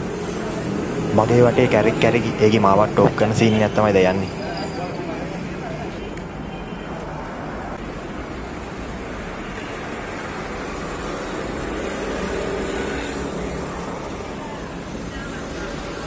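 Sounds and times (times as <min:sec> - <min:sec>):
rumble of passing vehicles: 0:00.0 - 0:16.0.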